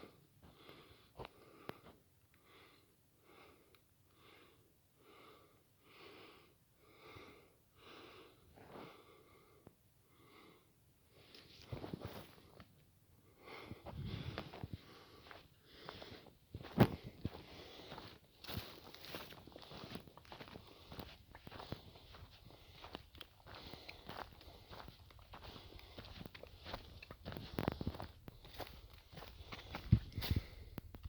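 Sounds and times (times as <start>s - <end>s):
person breathing hard: 0.0s - 12.6s, 13.2s - 31.0s.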